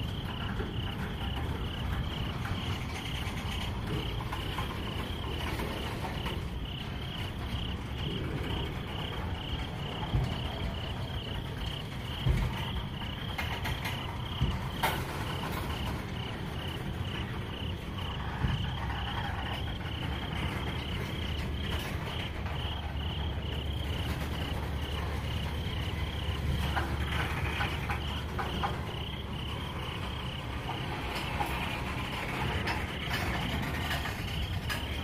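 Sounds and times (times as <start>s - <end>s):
freight train rolling rumble: 0.0s - 35.0s
night insects chirping: 0.0s - 35.0s
train couplers clanking: 0.0s - 35.0s.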